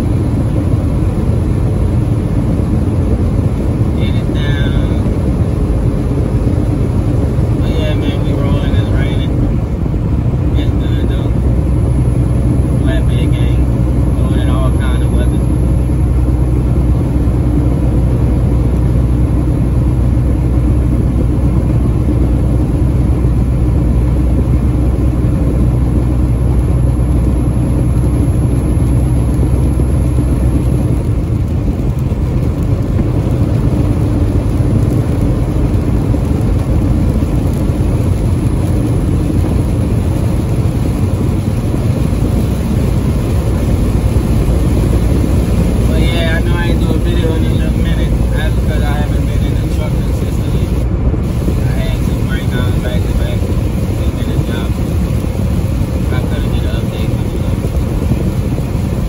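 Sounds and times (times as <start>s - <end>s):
truck engine drone: 0.0s - 59.0s
tyre noise on wet road: 0.0s - 59.0s.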